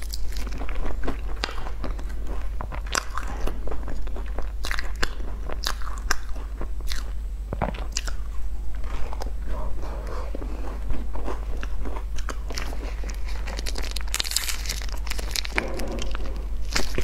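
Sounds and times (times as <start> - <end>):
biting and chewing crisp pastry: 0.0 - 17.0.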